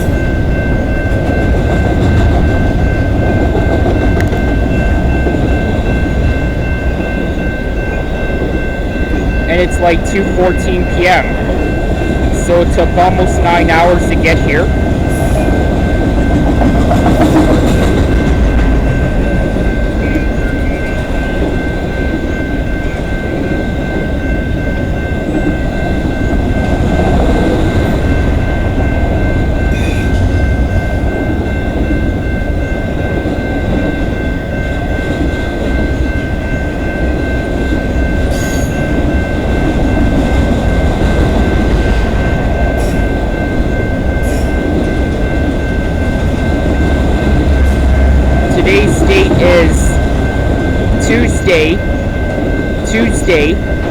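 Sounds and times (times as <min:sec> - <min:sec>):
steel wheels rumbling on rail: 0:00.0 - 0:53.9.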